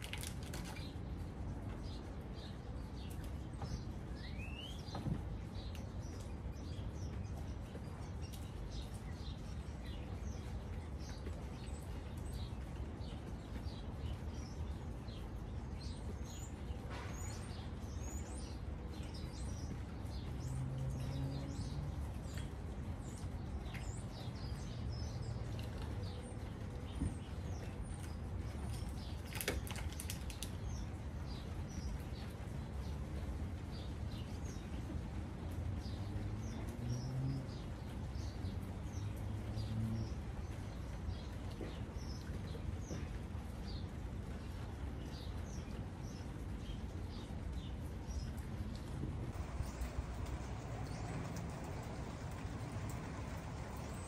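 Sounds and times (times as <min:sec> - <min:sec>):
birds chirping: 0:00.0 - 0:48.4, 0:49.3 - 0:54.0
low background noise: 0:00.0 - 0:54.0.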